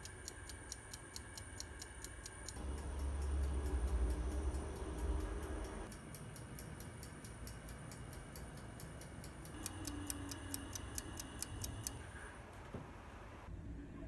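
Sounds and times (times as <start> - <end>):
rapid mechanical ticking: 0.0 - 12.2.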